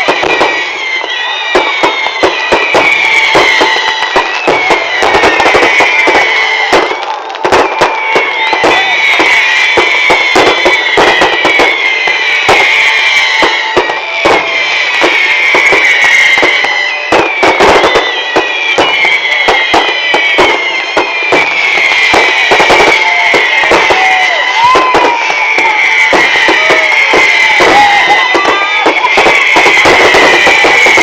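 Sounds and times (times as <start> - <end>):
firecracker bangs: 0.0 - 31.0.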